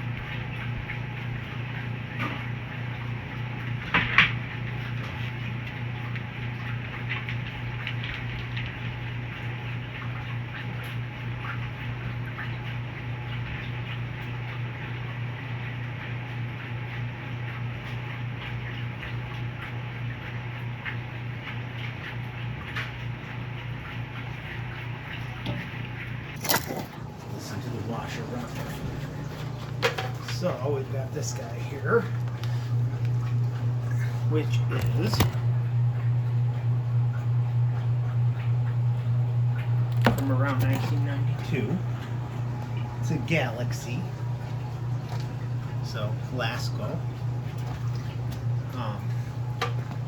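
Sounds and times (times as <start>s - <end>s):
washing machine humming: 0.0s - 50.0s.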